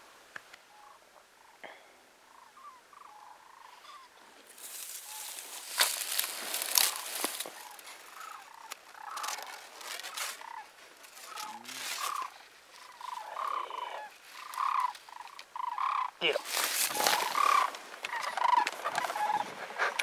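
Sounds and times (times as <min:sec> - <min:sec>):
sandhill cranes calling: 0:00.7 - 0:20.0
dry grass rustling: 0:03.0 - 0:20.0.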